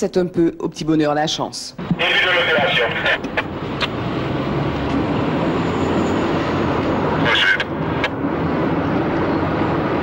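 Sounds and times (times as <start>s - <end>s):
car engine and road noise: 1.8s - 10.0s.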